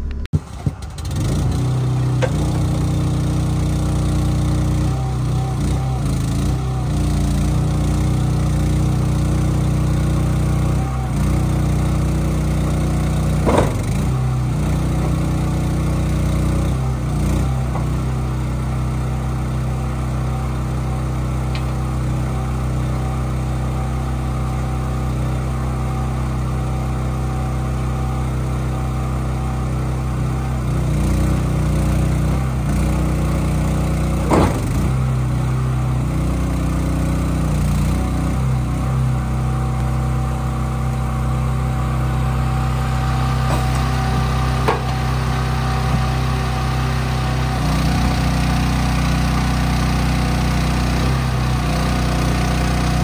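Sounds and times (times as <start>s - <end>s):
engine running steadily: 0.0s - 53.0s.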